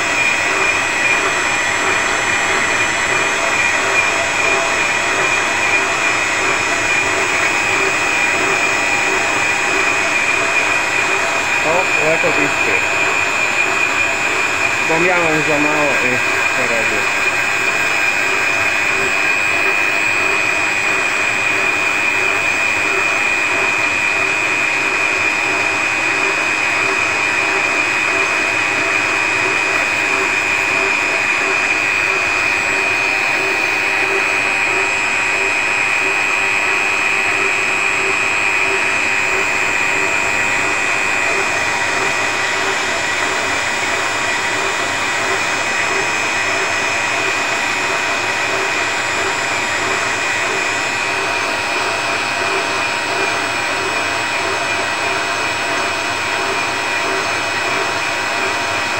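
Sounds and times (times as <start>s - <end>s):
electric grinder high whine: 0.0s - 58.9s
lathe running: 0.0s - 58.9s.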